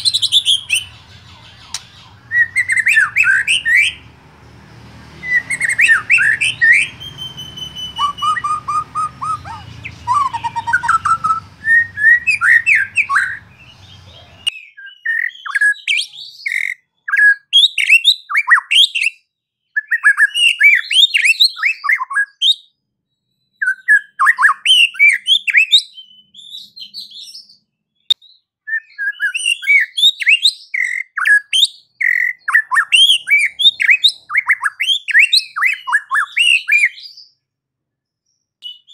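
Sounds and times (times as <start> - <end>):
bird singing whistles and chatters: 0.0 - 22.7, 23.5 - 27.6, 28.2 - 37.4, 38.6 - 38.9.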